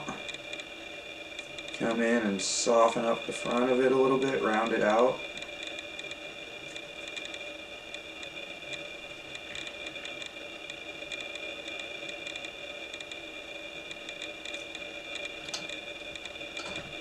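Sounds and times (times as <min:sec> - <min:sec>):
high-pitched hum: 0:00.0 - 0:17.0.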